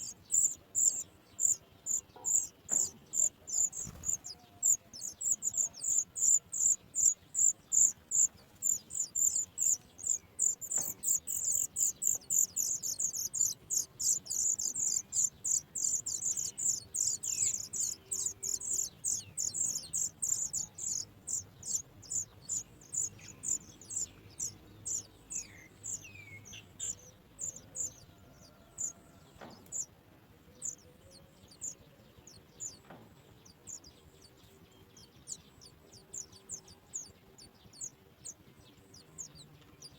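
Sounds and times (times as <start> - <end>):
nestlings begging calls: 0.0 - 29.9, 30.6 - 32.8, 33.4 - 39.9.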